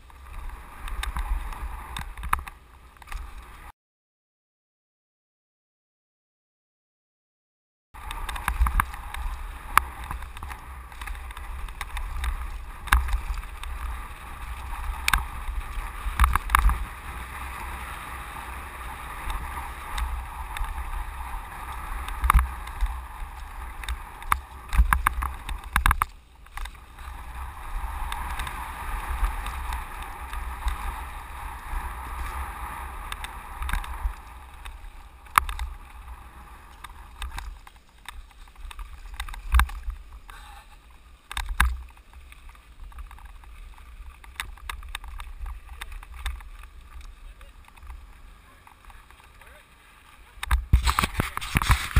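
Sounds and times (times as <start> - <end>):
wind and tyre rush: 0.0 - 3.7, 8.0 - 51.9
bike knocking and rattling: 8.0 - 51.9.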